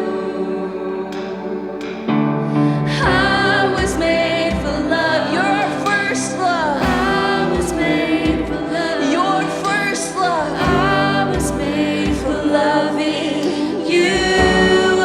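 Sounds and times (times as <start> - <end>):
singer and congregation singing: 0.0 - 15.0
steady drum beat: 3.0 - 15.0.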